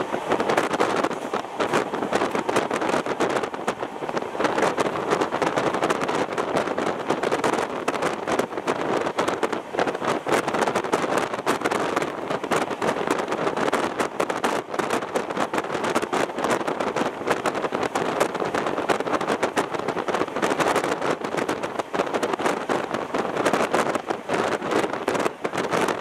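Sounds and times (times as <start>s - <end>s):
train rattling and clatter: 0.0s - 26.0s
wheels rushing on rails: 0.0s - 26.0s.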